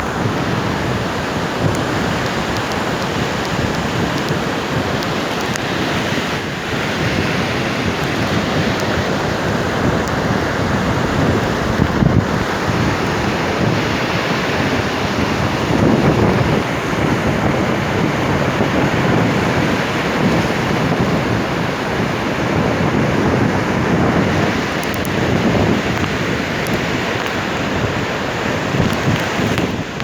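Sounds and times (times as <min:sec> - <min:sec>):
sea waves washing on shore: 0:00.0 - 0:30.0
wind buffeting microphone: 0:00.0 - 0:30.0.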